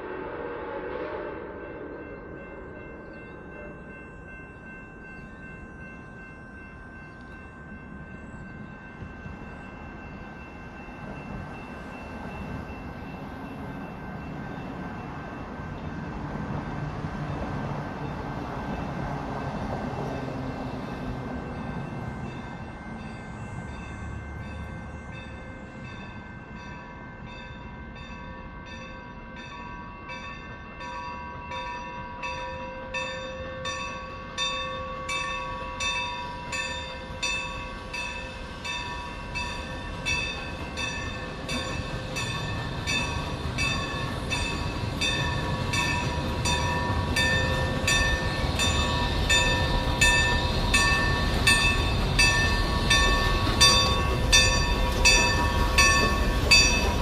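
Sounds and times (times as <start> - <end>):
steam train rumbling: 0.0 - 28.1, 33.0 - 57.0
locomotive bell ringing: 1.6 - 57.0.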